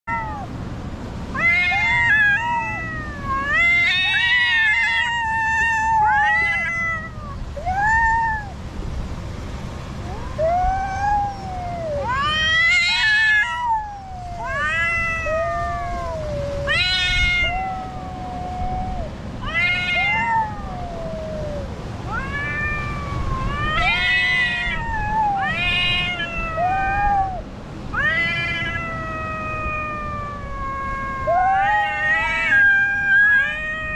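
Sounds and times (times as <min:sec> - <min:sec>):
cats yowling: 0:00.0 - 0:00.6, 0:01.3 - 0:08.6, 0:10.0 - 0:33.9.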